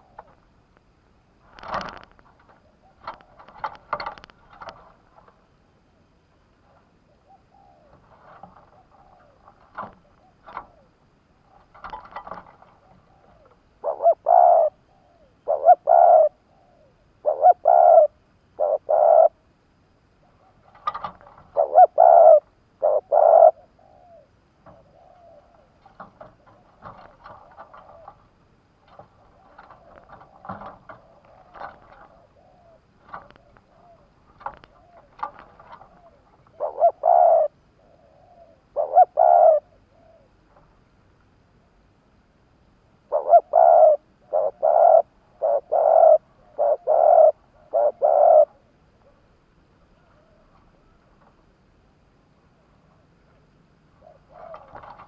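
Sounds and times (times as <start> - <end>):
dove cooing: 0.0 - 0.4, 1.5 - 5.4, 6.6 - 19.5, 20.2 - 40.7, 43.1 - 51.0, 53.9 - 55.0.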